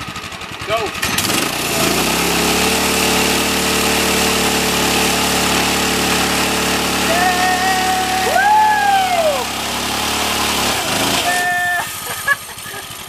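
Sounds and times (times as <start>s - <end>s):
go-kart engine revving: 0.0s - 13.0s
tires spinning on pavement: 1.0s - 13.0s.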